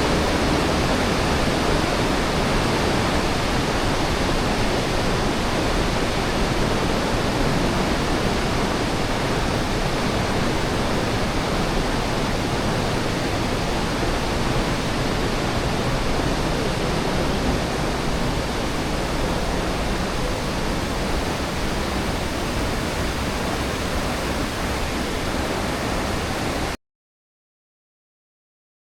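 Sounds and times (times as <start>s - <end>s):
rushing water: 0.0s - 26.8s.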